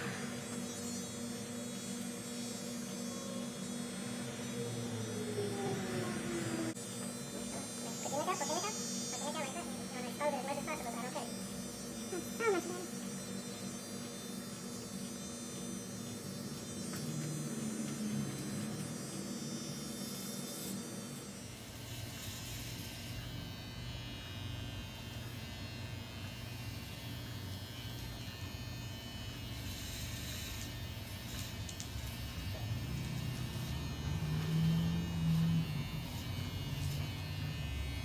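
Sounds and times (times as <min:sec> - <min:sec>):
electric hair clippers buzzing: 0:00.0 - 0:38.0.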